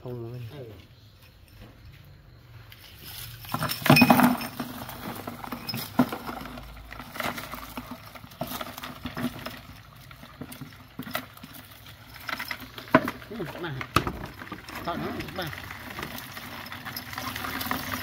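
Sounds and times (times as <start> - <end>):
clicks and clattering: 3.0 - 18.0.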